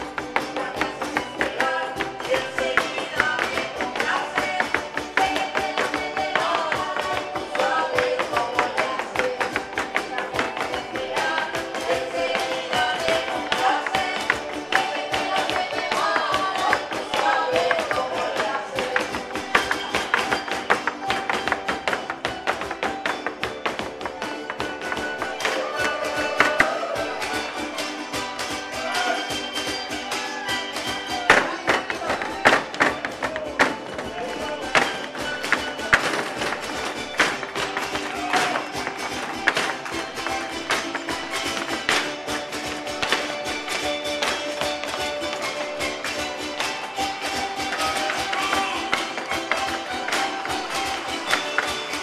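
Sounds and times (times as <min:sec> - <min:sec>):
boots stamping on stage floor: 0:00.0 - 0:27.0, 0:31.0 - 0:46.8
folk string music with guitar: 0:00.0 - 0:52.0.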